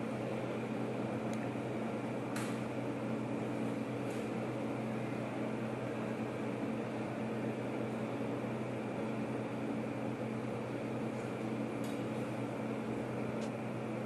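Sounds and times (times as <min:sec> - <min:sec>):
mechanical hum of equipment: 0:00.0 - 0:14.0.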